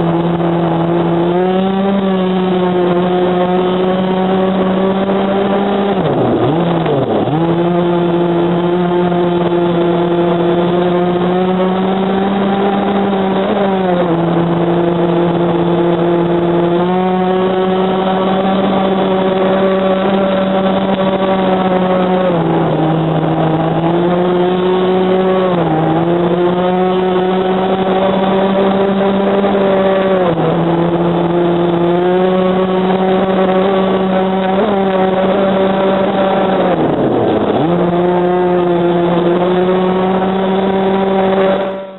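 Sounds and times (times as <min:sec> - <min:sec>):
model boat engine buzzing: 0:00.0 - 0:41.9.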